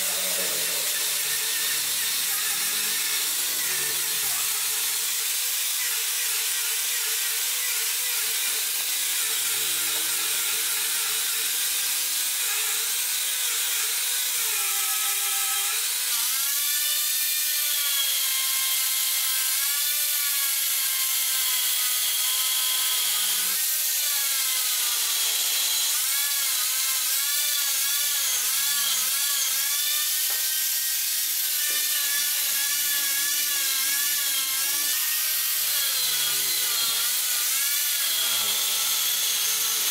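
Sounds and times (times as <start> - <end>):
angle grinder sanding wood: 0.0 - 16.8, 20.6 - 39.9.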